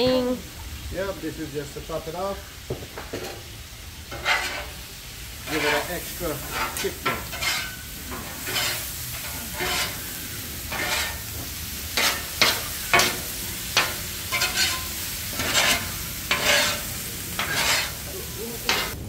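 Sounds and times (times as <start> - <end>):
chicken sizzling on a griddle: 0.0 - 19.0
metal spatula scraping a griddle: 3.2 - 19.0.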